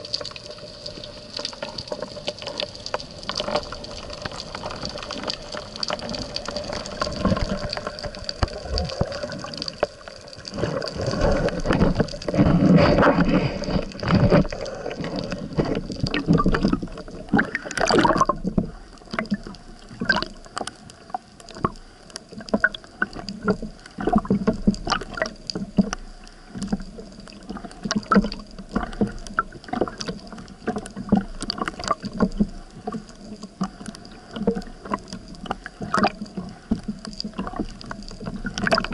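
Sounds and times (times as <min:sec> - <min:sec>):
underwater rush of water: 0:00.0 - 0:38.9
water splashing and sloshing: 0:00.0 - 0:38.9.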